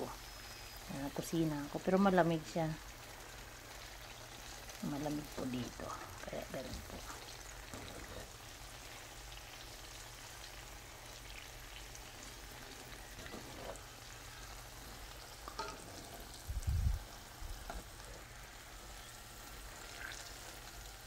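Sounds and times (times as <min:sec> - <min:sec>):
bananas frying in hot oil: 0:00.0 - 0:21.0.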